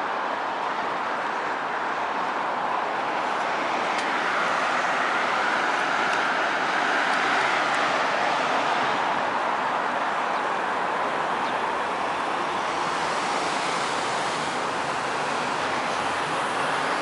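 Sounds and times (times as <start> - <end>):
traffic tyre noise hiss: 0.0 - 17.0.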